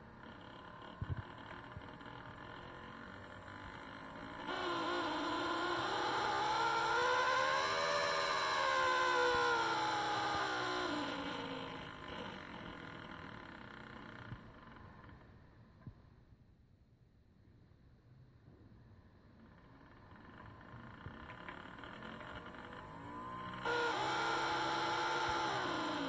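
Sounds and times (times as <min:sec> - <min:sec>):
mechanical motor whine: 0:00.0 - 0:15.6, 0:19.8 - 0:26.0.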